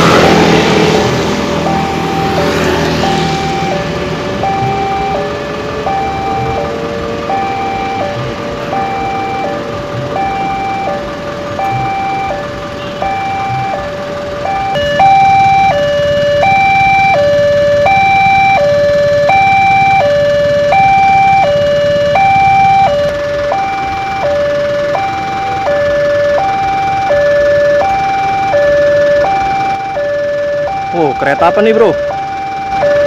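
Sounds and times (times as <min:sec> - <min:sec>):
two-tone crossing alarm: 0:00.0 - 0:33.0.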